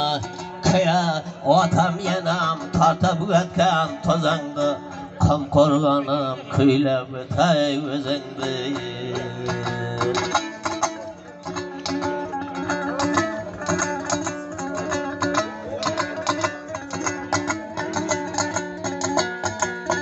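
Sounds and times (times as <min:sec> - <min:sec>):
dombra strummed fast: 0:00.0 - 0:05.9, 0:07.3 - 0:20.0.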